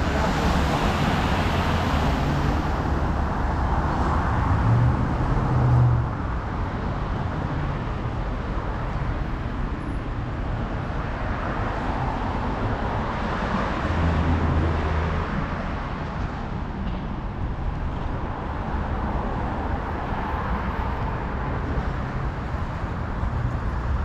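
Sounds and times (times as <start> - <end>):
vehicles driving past: 0.0 - 24.0.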